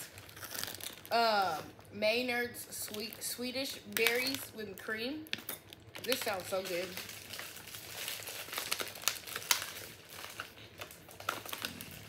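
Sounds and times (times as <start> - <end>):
thin plastic crinkling: 0.0 - 1.9, 2.7 - 12.0.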